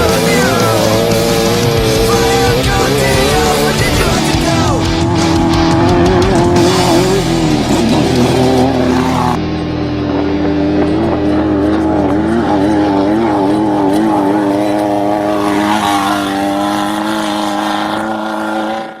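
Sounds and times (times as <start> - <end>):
engine running at high revs: 0.0 - 19.0.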